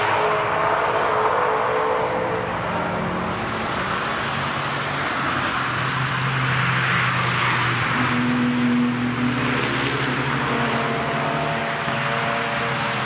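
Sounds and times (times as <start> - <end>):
cars passing at speed: 0.0 - 13.0.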